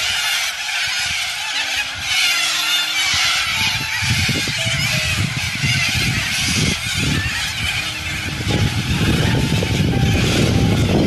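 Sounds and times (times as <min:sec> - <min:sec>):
flock of corellas screeching: 0:00.0 - 0:10.8.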